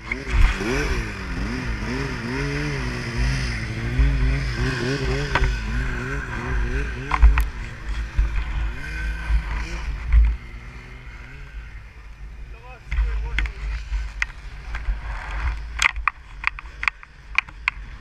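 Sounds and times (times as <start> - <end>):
snowmobile engine revving: 0.0 - 18.0.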